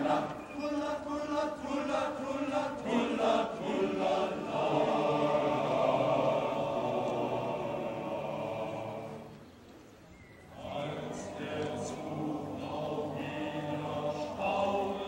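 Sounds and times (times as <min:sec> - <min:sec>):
male choir singing: 0:00.0 - 0:09.3, 0:10.5 - 0:15.0.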